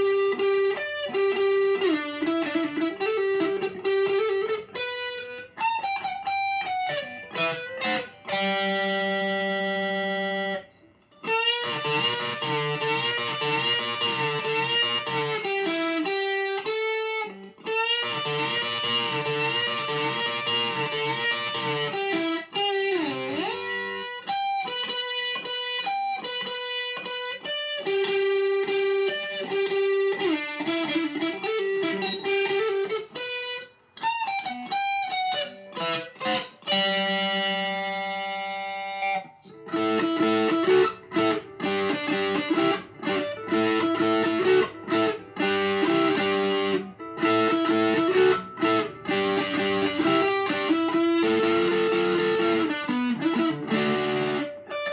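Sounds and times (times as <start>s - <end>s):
electric guitar through amplifier: 0.0s - 54.9s.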